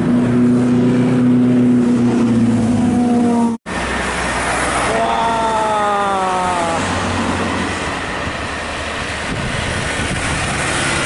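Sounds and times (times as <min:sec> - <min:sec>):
diesel bus engines rumbling: 0:00.0 - 0:11.0
road noise: 0:00.0 - 0:11.0.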